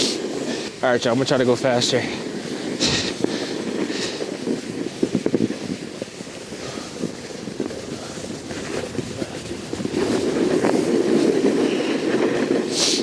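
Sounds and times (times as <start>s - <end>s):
snowboard scraping over snow: 0.0s - 13.0s.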